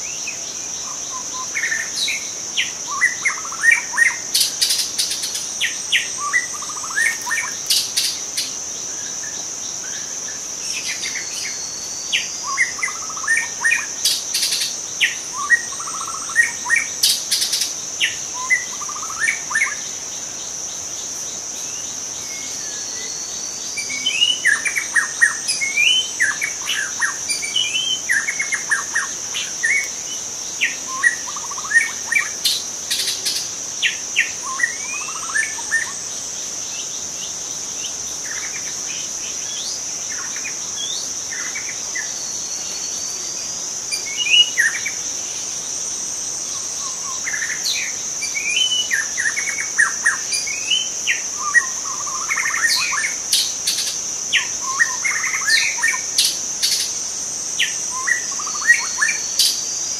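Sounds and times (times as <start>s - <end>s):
high insect buzz: 0.0s - 59.9s.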